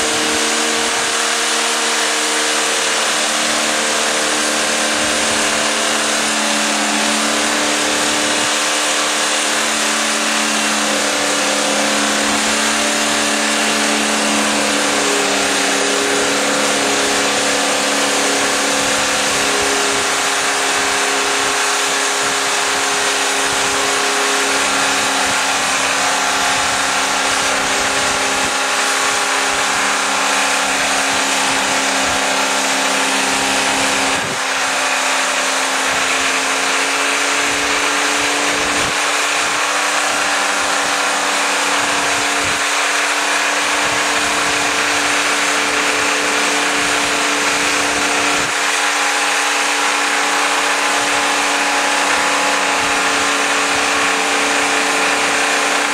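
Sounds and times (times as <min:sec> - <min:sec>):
car engine revving at high rpm: 0:00.0 - 0:55.9.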